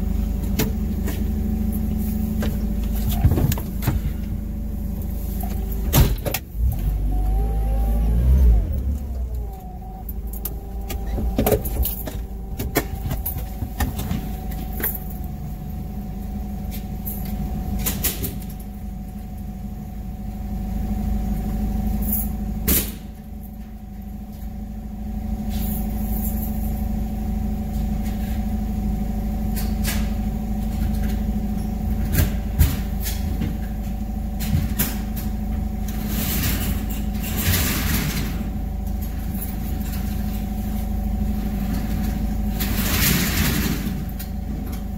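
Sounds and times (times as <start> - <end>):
forklift humming: 0.0 - 44.9.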